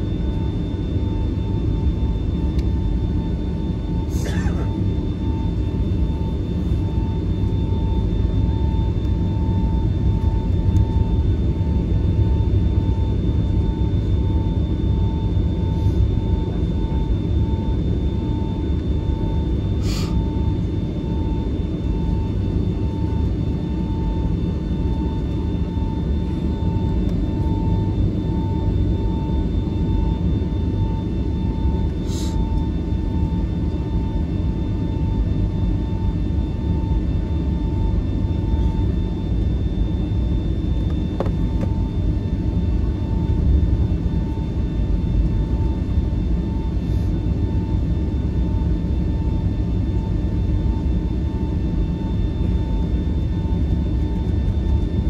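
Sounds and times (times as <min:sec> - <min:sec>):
aircraft cabin engine rumble: 0:00.0 - 0:55.0
faint high whine: 0:00.0 - 0:55.0.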